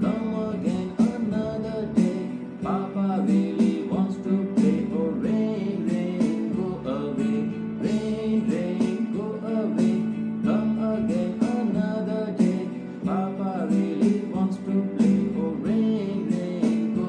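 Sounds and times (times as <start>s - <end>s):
children's song sung: 0.0s - 17.0s
instrumental accompaniment: 0.0s - 17.0s.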